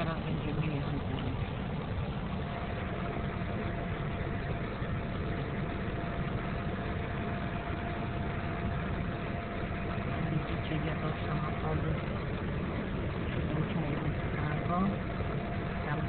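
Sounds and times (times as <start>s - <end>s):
car engine idling: 0.0s - 16.0s
faint engine whine: 0.0s - 16.0s.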